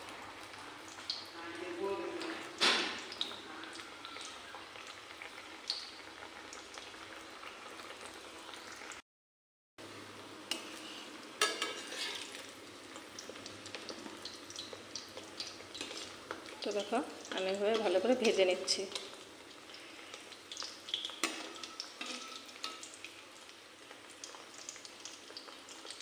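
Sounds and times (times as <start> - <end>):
dough deep-frying in oil: 0.0 - 9.0, 9.8 - 26.0.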